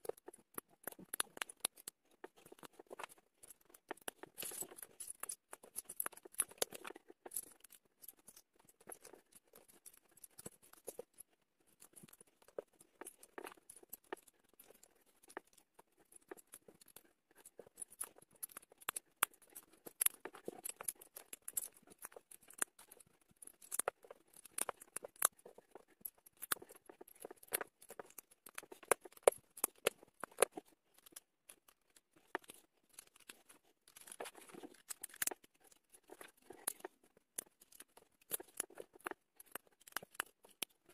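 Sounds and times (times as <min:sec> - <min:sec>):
plastic bricks clicking and rattling: 0:00.0 - 0:40.9.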